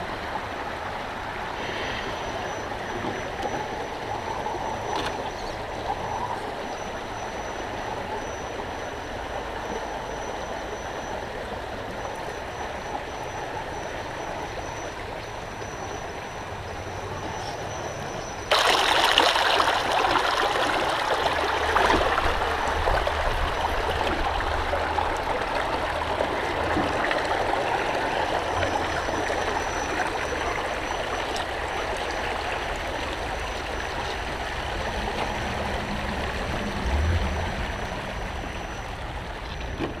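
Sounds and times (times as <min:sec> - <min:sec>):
stream rushing over stones: 0:00.0 - 0:40.0.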